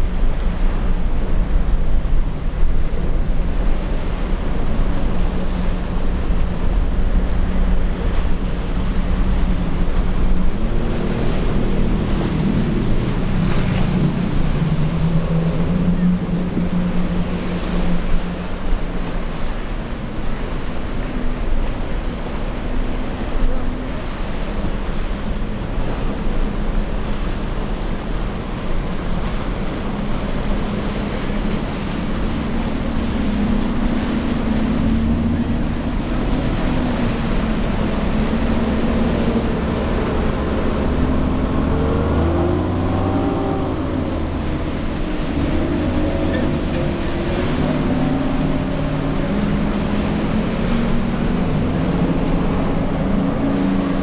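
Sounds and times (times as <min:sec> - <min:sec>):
choppy surf: 0:00.0 - 0:54.0
motorboat engines running: 0:00.0 - 0:54.0
wind: 0:00.0 - 0:54.0.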